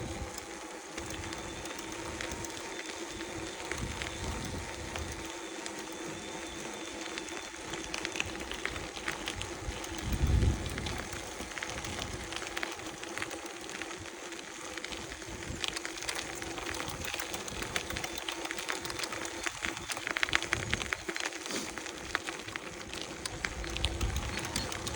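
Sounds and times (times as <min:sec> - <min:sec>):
e-bike motor humming: 0:00.0 - 0:24.9.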